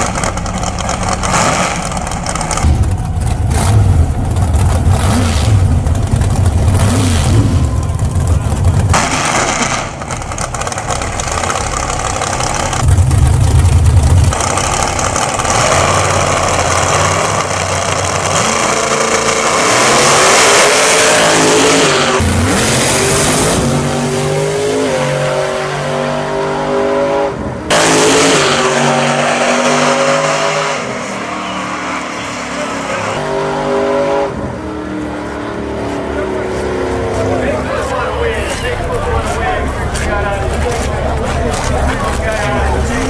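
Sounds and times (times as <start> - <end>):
drag racing cars accelerating: 0.0 - 43.0.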